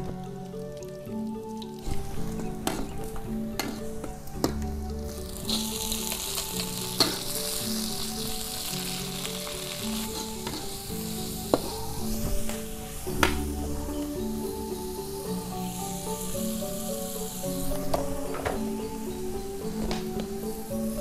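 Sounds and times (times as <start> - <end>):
food sizzling in hot oil: 0.1 - 21.0.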